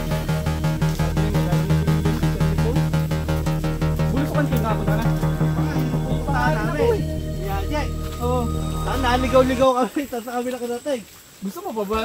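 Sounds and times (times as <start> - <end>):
fast beat background music: 0.0 - 9.6
held bass note: 0.0 - 9.7.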